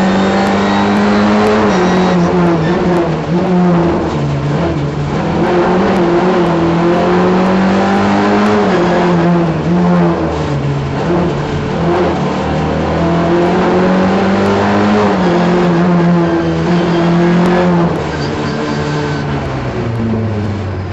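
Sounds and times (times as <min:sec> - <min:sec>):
rally car engine revving: 0:00.0 - 0:20.9.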